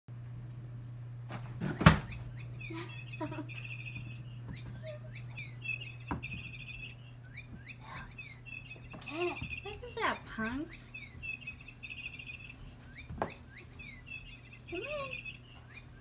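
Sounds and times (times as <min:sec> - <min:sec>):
steady low hum: 0:00.1 - 0:16.0
high chirps and warbling trills: 0:01.3 - 0:16.0.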